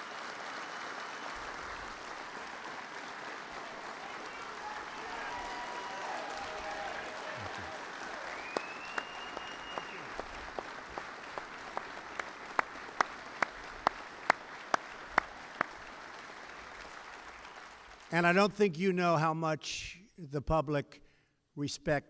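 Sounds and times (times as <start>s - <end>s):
man's sharp claps near microphone: 0.0s - 18.1s
crowd applauding: 0.0s - 18.4s.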